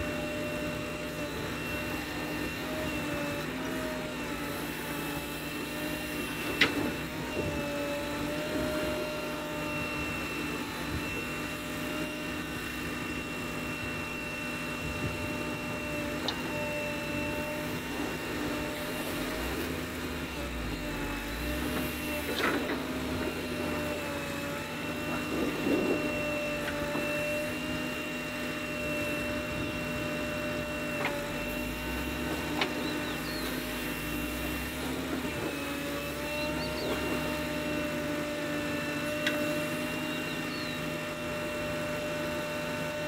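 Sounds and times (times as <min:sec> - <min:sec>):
high whine: 0:00.0 - 0:37.5
diesel engine running: 0:00.0 - 0:43.0.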